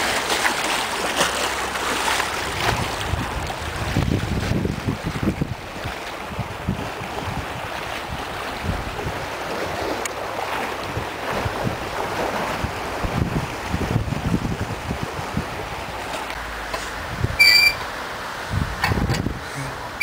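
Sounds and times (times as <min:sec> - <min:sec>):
water rushing past boat: 0:00.0 - 0:20.0
wind buffeting microphone: 0:02.2 - 0:16.1, 0:16.9 - 0:17.4, 0:18.4 - 0:20.0.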